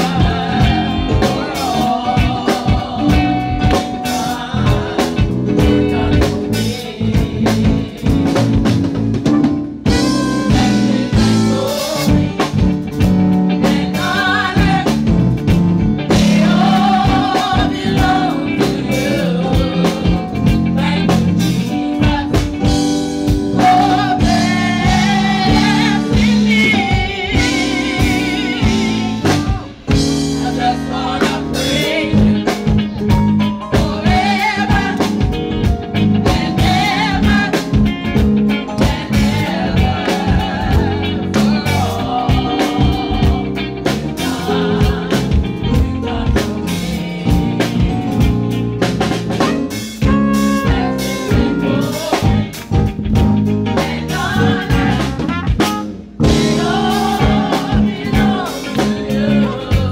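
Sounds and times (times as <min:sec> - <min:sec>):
drum kit beat: 0:00.0 - 0:59.9
electric bass: 0:00.0 - 0:59.9
gospel choir singing: 0:00.0 - 0:59.9.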